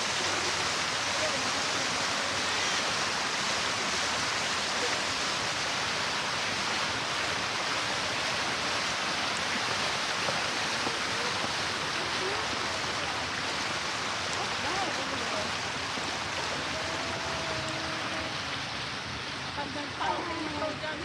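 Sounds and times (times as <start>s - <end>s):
faint voices: 0.0s - 5.9s, 9.6s - 21.0s
water cascading down a wall: 0.0s - 21.0s.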